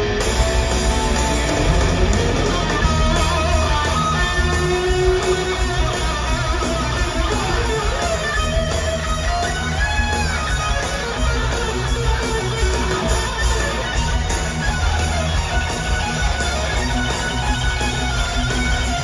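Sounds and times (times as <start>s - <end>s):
bass guitar: 0.0s - 19.0s
drums: 0.0s - 19.0s
electric guitar lead lines: 0.0s - 19.0s.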